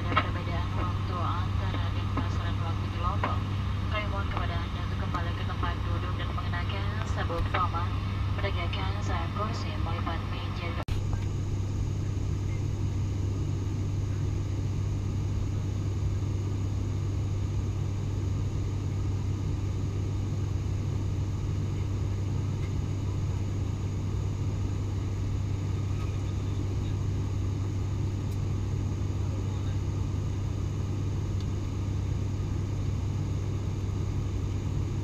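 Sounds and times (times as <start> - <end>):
turboprop engines droning in cabin: 0.0 - 35.0.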